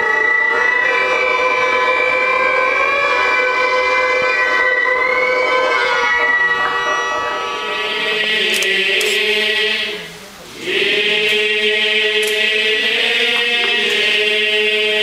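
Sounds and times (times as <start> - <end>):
voices chanting in unison: 0.6 - 15.0.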